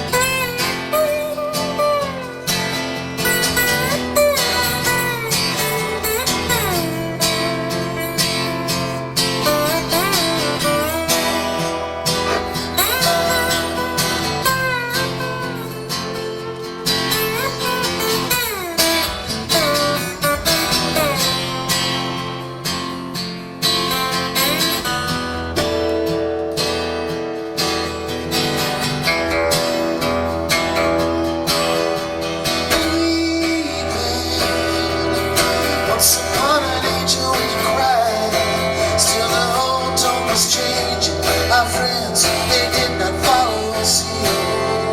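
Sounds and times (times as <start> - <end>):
guitar with sliding notes: 0.0 - 44.9.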